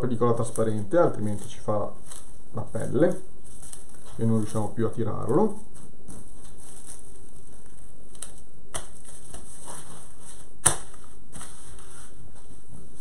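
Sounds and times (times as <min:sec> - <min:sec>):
cling film crinkling: 0:00.0 - 0:11.9.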